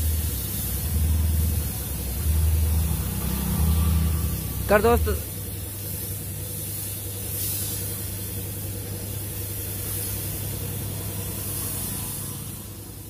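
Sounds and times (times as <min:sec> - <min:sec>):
paint spray gun hissing: 0:00.0 - 0:13.0.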